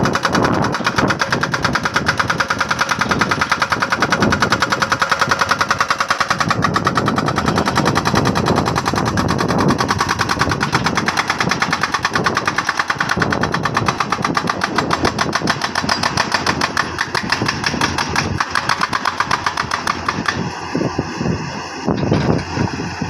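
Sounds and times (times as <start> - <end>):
jackhammer hammering rock: 0.0 - 20.6
engine running: 0.0 - 23.0.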